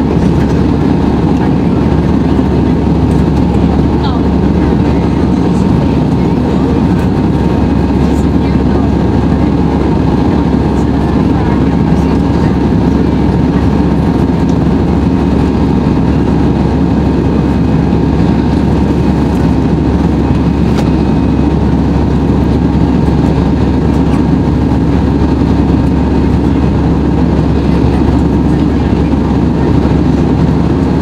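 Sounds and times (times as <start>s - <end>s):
faint steady whine: 0.0s - 31.0s
jet engine and airflow rumble: 0.0s - 31.0s.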